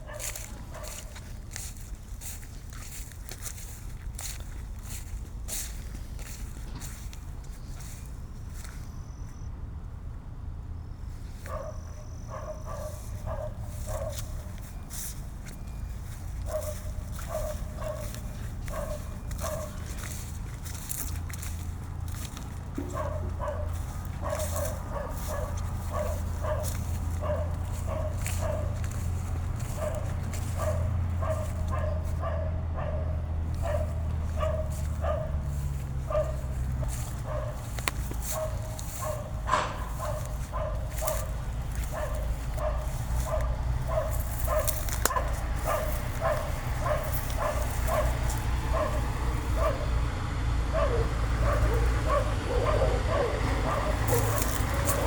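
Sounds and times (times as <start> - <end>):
dog barking: 0.0 - 9.5, 11.4 - 55.0.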